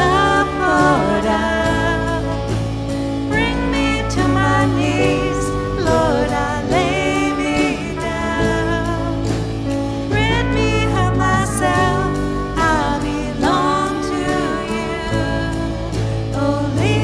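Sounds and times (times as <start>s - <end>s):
band holding low notes: 0.0s - 17.0s
person singing: 0.0s - 17.0s.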